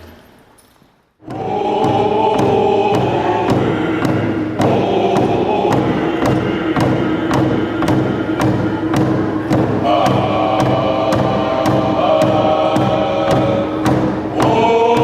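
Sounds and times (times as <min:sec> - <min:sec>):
group of voices singing: 0:01.2 - 0:15.0
hand drum beat: 0:01.2 - 0:15.0.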